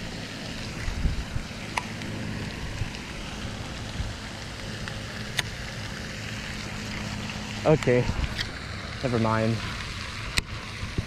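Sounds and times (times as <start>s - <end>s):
fountain spray splashing: 0.0s - 11.0s.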